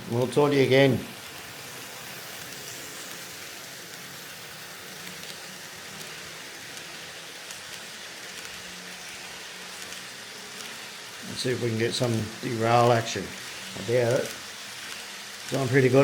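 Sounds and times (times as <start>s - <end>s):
model train whirring: 0.0s - 16.0s.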